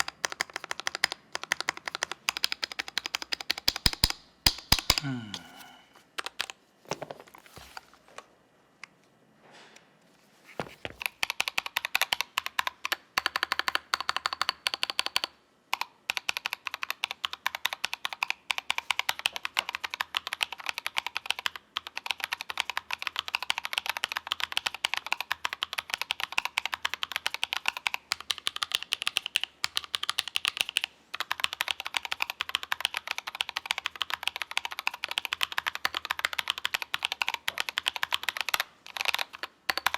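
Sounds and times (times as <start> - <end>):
fast typing key clacks: 0.0 - 5.0, 11.0 - 39.9.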